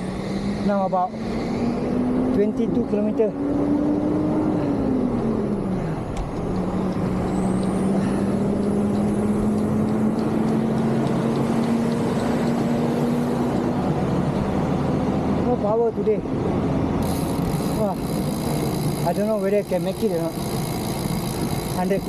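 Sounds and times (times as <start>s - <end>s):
road noise: 0.0s - 22.0s
steady engine drone: 0.0s - 22.0s.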